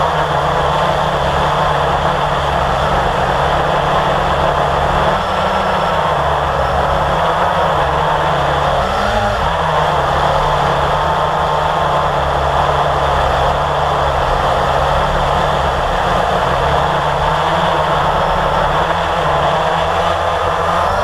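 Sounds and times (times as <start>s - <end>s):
quadcopter motors buzzing: 0.0s - 21.0s.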